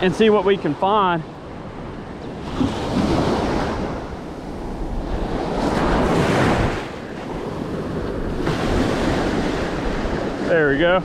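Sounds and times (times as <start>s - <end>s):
surf waves breaking on sand: 0.0s - 11.0s
wind on microphone: 1.6s - 11.0s.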